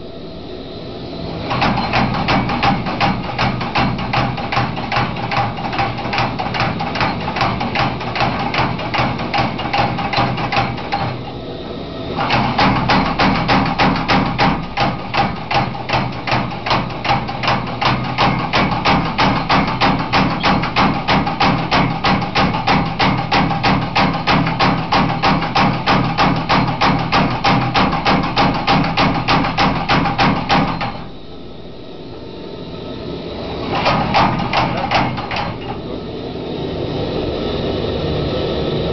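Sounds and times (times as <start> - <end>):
power hammer hammering hot steel: 1.4 - 11.3, 12.1 - 31.2, 33.6 - 35.9.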